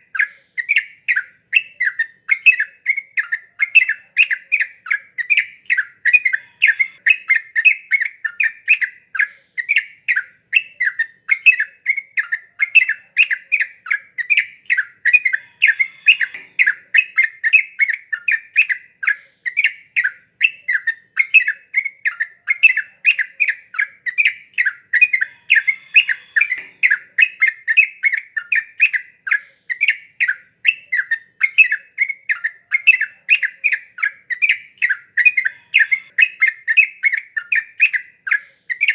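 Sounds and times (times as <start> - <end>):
bird singing rapid chattering notes: 0.0 - 38.9.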